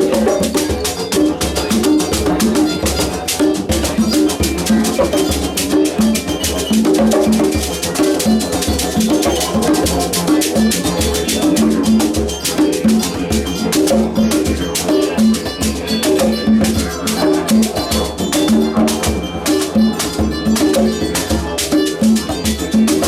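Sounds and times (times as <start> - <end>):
didgeridoo drone: 0.0 - 23.0
hand drums: 0.0 - 23.0
plucked kora notes: 0.0 - 23.0
shaker strokes: 0.0 - 23.0.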